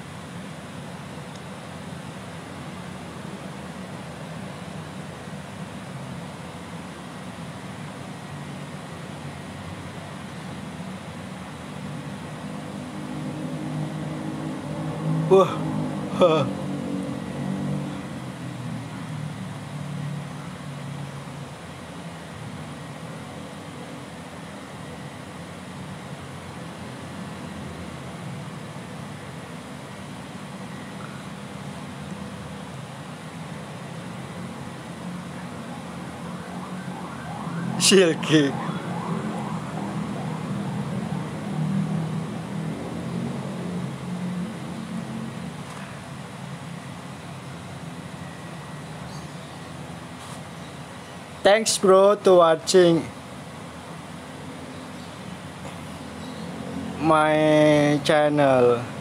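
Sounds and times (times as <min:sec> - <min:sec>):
low rumbling background noise: 0:00.0 - 0:59.0.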